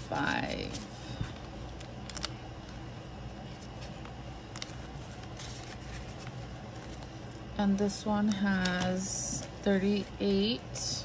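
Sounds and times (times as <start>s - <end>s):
banknotes rustling and clicking: 0.0s - 2.8s, 3.4s - 7.2s, 7.8s - 10.0s
steady low hum: 0.0s - 11.0s.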